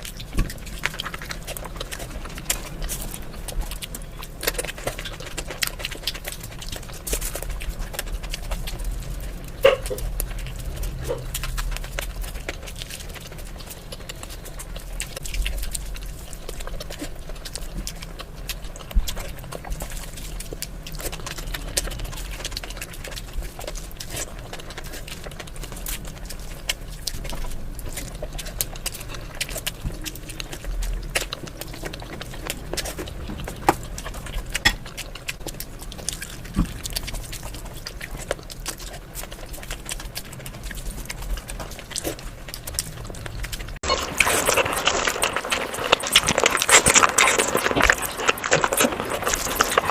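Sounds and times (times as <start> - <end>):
chewing with mouth smacks: 0.0 - 49.9.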